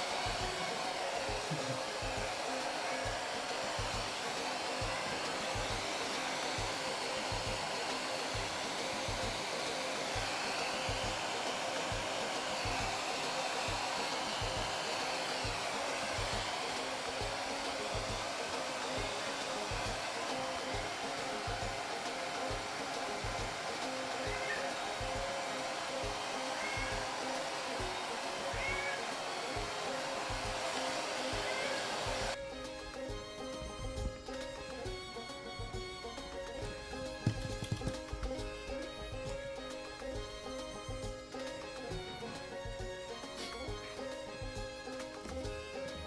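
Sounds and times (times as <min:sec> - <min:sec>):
hair dryer blowing: 0:00.0 - 0:46.0.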